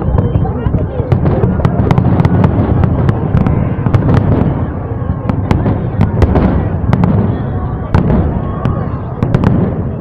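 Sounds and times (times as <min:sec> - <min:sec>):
crackling firework pops: 0:00.0 - 0:10.0
low rumble of firework bursts: 0:00.0 - 0:10.0.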